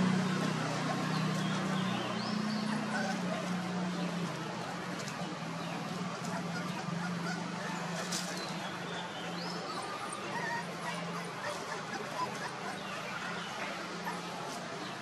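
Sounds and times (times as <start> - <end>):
puppies whimpering: 0.7 - 4.3, 5.7 - 15.0.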